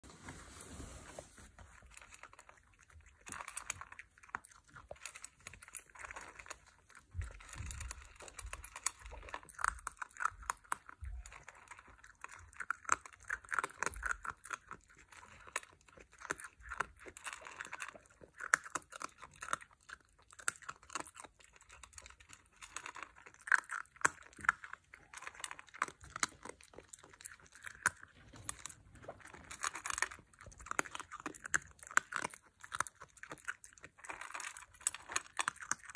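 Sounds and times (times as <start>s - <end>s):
dog crunching dry kibble: 1.4s - 35.9s.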